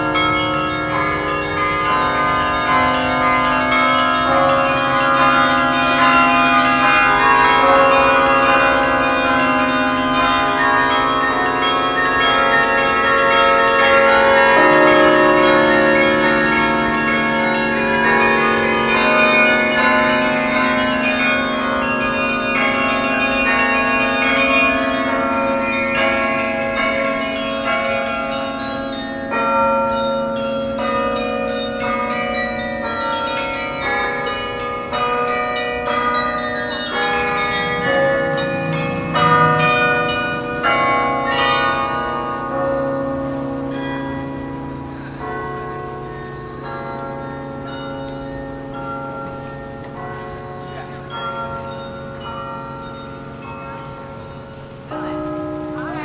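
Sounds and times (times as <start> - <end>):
carillon bells playing a tune: 0.0 - 56.0.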